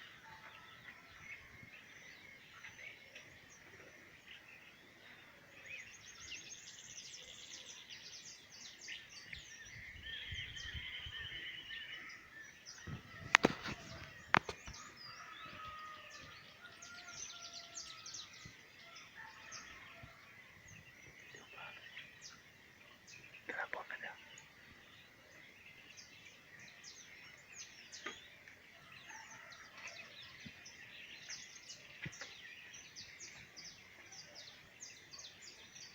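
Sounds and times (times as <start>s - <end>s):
birds chirping and calling: 0.0s - 35.9s.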